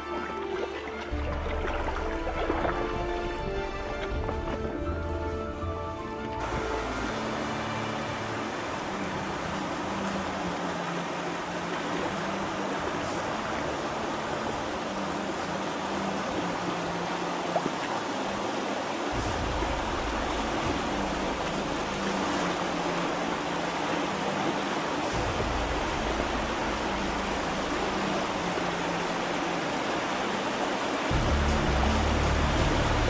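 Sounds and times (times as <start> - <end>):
water rushing over rocks: 0.0 - 33.0.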